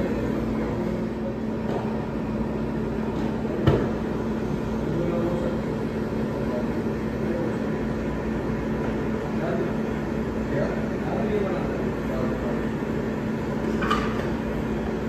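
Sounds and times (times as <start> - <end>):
equipment hum: 0.0 - 15.0
restaurant room noise: 0.0 - 15.0.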